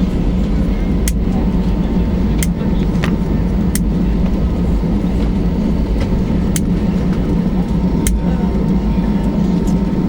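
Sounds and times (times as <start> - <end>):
aircraft cabin rumble: 0.0 - 10.0.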